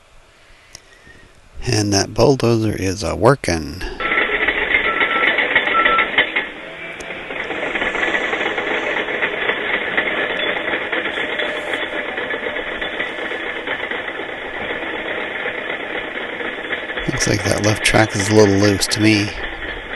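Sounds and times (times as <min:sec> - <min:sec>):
steel tracks clattering: 0:00.0 - 0:19.9
bulldozer diesel engine: 0:01.6 - 0:19.9.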